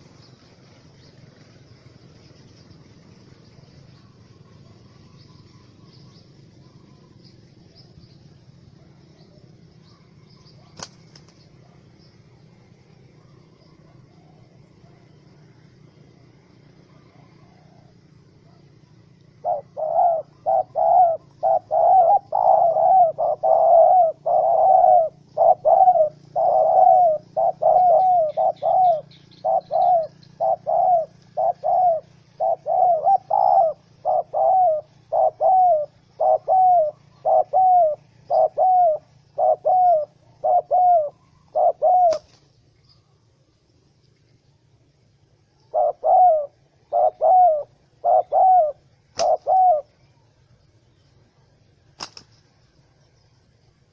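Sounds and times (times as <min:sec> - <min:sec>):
dove cooing: 0:00.0 - 0:42.5, 0:45.4 - 0:50.8.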